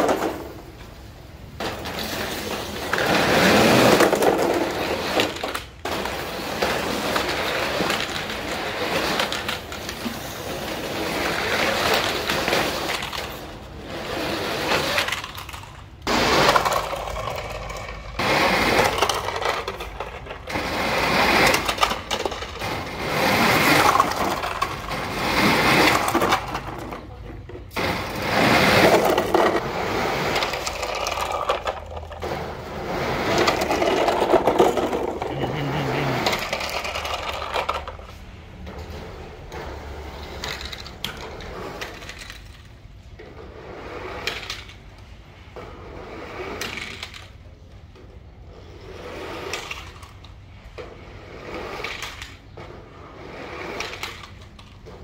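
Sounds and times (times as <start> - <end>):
toy trucks scraping on concrete: 0.0 - 55.0.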